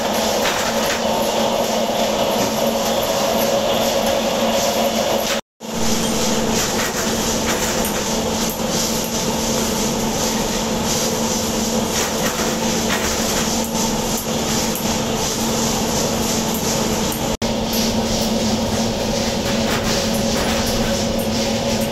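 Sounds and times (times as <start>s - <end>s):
machinery humming: 0.0s - 21.9s.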